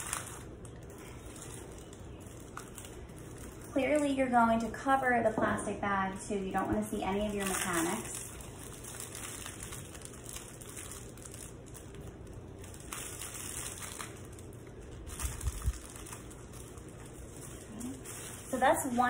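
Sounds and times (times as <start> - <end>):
foliage and plastic rustling: 0.0 - 4.4, 6.9 - 19.0.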